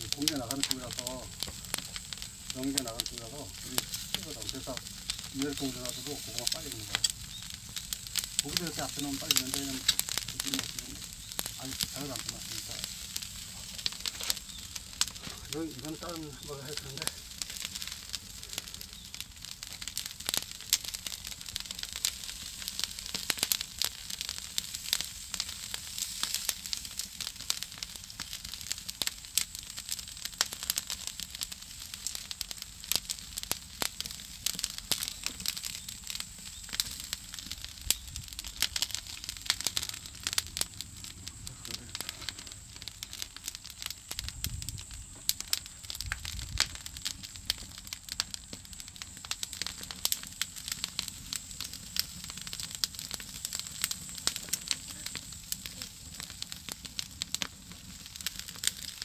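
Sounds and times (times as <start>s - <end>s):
fire hissing: 0.0s - 59.0s
firewood crackling and popping: 0.0s - 59.0s.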